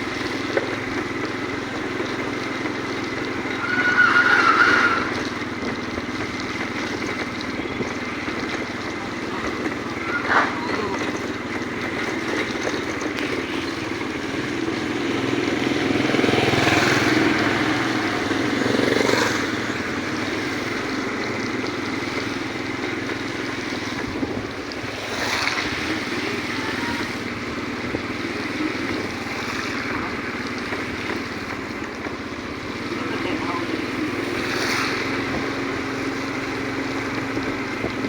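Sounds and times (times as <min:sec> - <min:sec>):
vehicle engine: 0:00.0 - 0:38.0.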